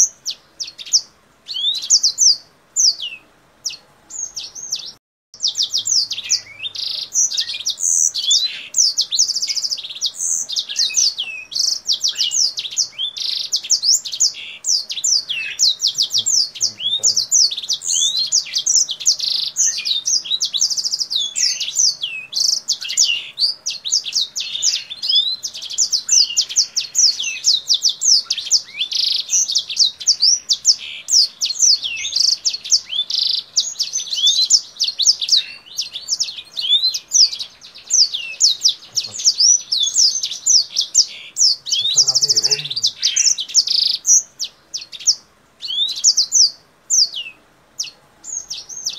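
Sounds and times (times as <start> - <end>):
bird singing chirps and trills: 0.0 - 48.9.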